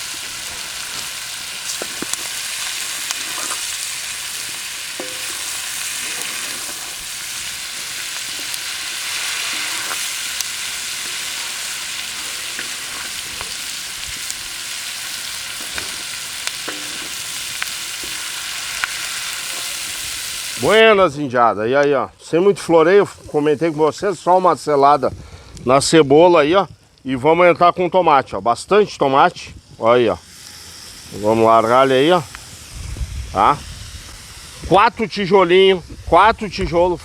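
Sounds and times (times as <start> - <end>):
food sizzling on a metal disc: 0.0 - 21.0, 22.4 - 25.0, 28.9 - 36.6.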